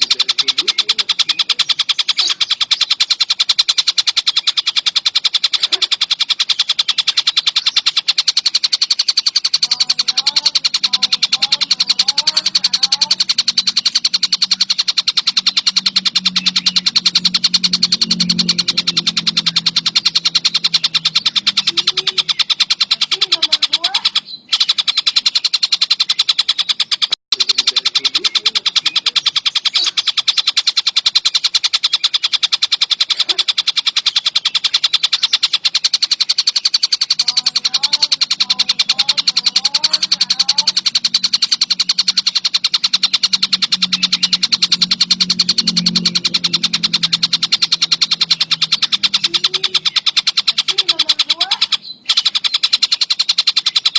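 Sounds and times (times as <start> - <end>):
kingfisher rattling call: 0.0 - 53.9.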